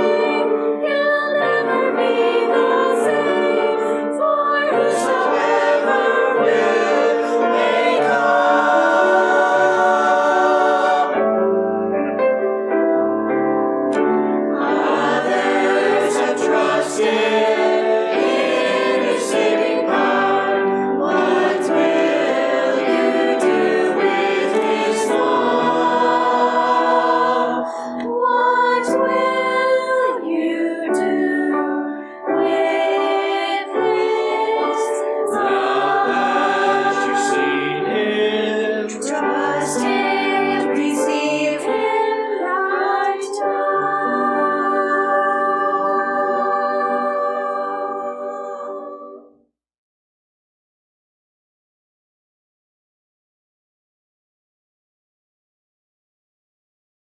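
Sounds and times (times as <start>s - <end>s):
church choir singing: 0.0s - 49.4s.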